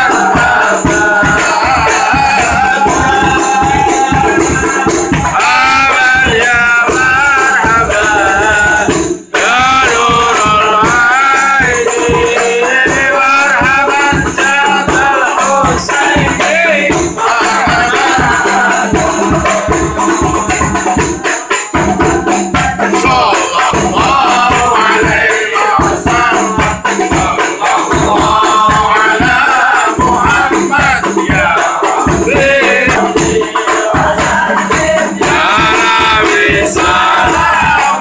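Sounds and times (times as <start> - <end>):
frame drums beating: 0.0 - 38.0
men singing together: 0.0 - 38.0.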